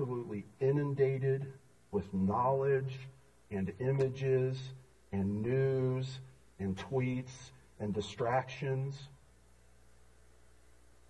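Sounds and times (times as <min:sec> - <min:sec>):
person speaking: 0:00.0 - 0:09.2
faint low hum: 0:00.0 - 0:11.0.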